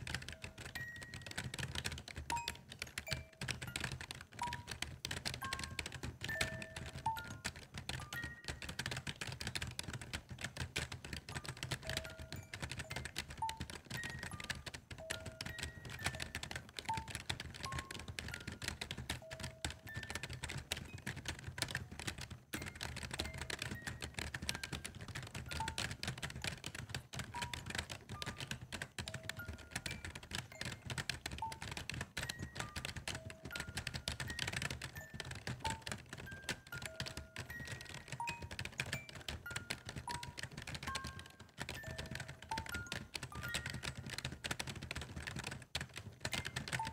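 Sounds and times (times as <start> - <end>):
fast clicks like typing: 0.0 - 46.9
soft background music: 0.0 - 46.9.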